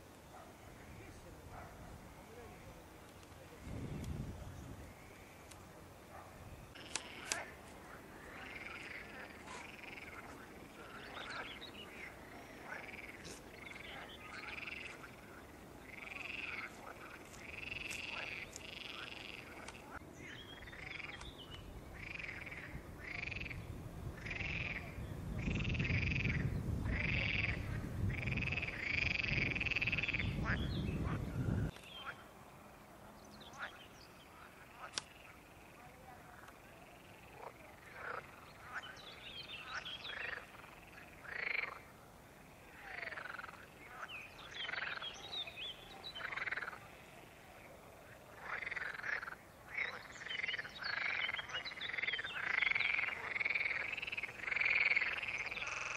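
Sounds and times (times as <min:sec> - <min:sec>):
frogs croaking: 0:00.3 - 0:55.9.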